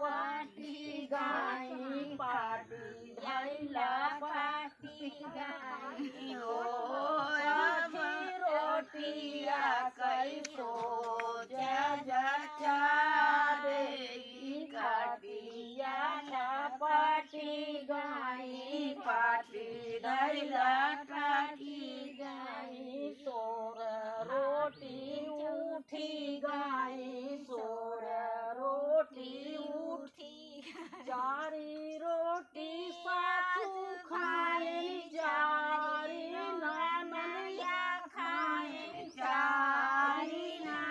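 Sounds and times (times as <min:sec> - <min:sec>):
women singing folk song: 0:00.0 - 0:40.9.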